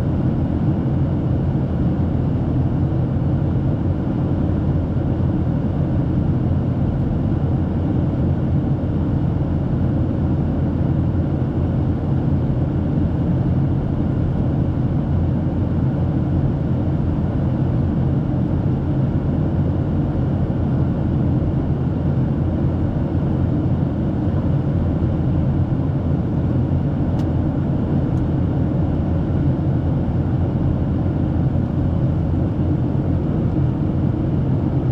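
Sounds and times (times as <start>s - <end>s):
jet engine rumble: 0.0s - 34.9s.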